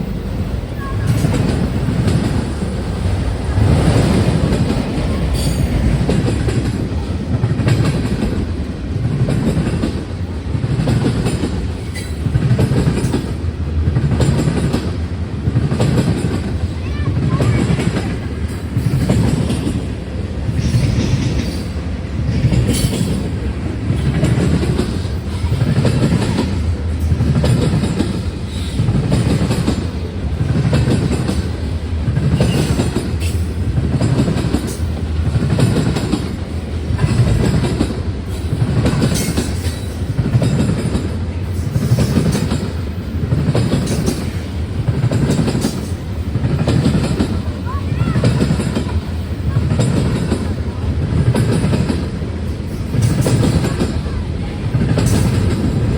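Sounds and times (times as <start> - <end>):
train wheels clattering over joints: 0.0 - 55.9.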